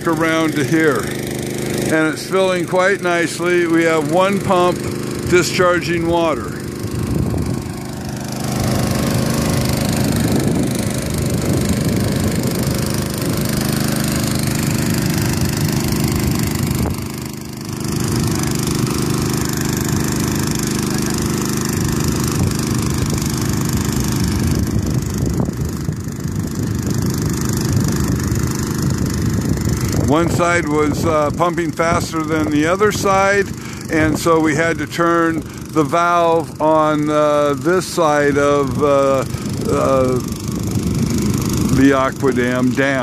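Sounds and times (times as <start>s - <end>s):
water pump engine running: 0.0s - 43.0s.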